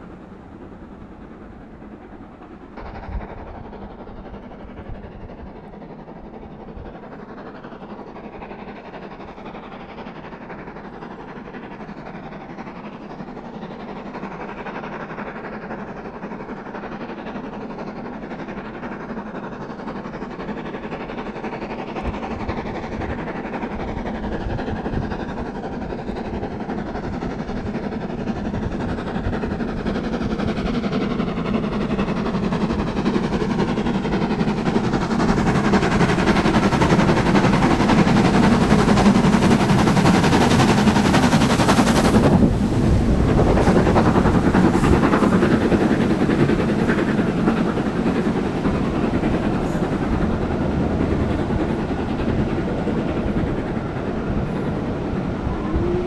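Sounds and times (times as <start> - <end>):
steam locomotive approaching: 0.0 - 56.0.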